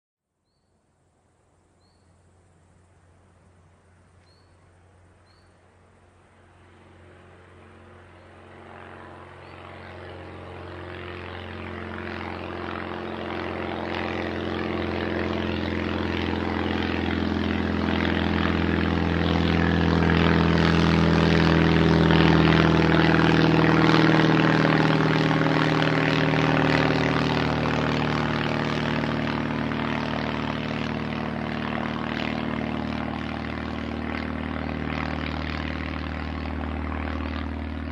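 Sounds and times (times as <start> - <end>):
propeller plane engine drone: 0.4 - 37.9.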